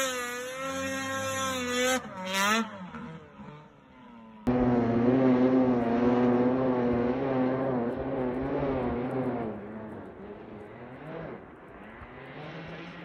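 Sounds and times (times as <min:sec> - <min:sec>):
snowmobile engine running hard: 0:00.0 - 0:13.0.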